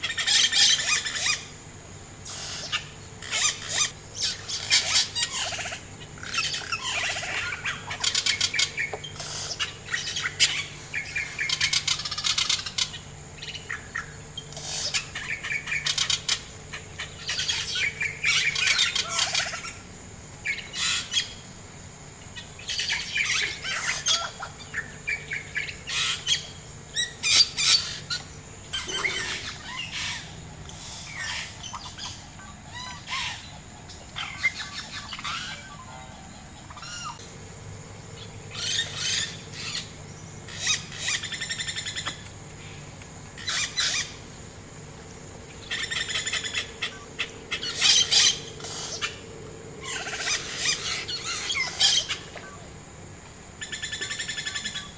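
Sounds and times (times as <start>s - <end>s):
birds calling and chirping: 0.0s - 54.9s
high-pitched insect drone: 0.0s - 54.9s.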